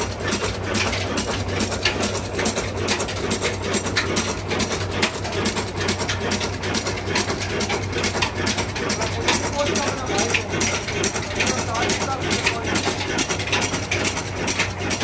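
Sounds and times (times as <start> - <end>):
stationary engine clattering: 0.0 - 15.0.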